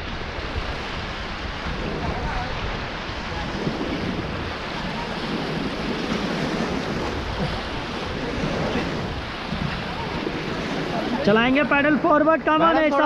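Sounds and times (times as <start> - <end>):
rushing river water: 0.0 - 13.0
wind buffeting microphone: 0.0 - 13.0.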